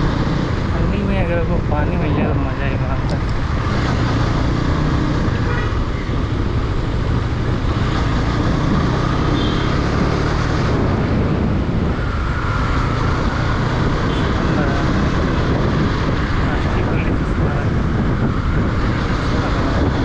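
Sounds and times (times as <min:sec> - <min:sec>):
road noise: 0:00.0 - 0:20.0
wind rumble on microphone: 0:00.0 - 0:20.0
motorcycle engine: 0:03.0 - 0:20.0.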